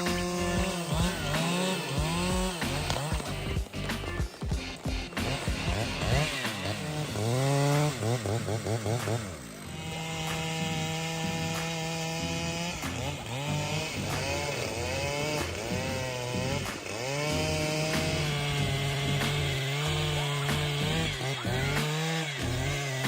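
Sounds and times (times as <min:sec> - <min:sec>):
chainsaw cutting at high revs: 0:00.0 - 0:23.0.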